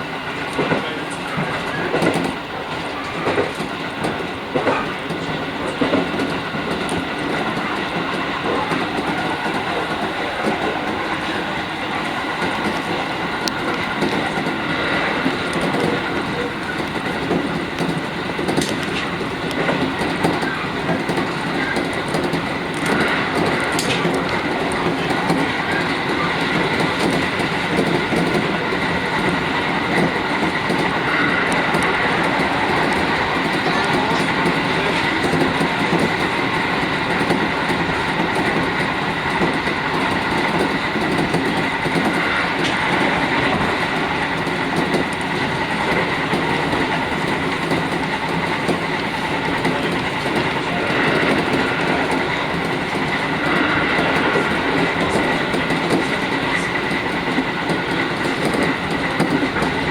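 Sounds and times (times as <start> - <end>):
electric train running: 0.0 - 59.9
wheels clacking over rails: 0.0 - 59.9.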